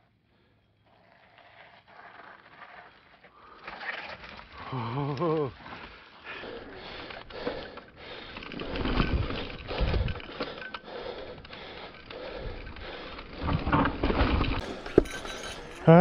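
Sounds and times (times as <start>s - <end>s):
bike rattling: 0.8s - 16.0s.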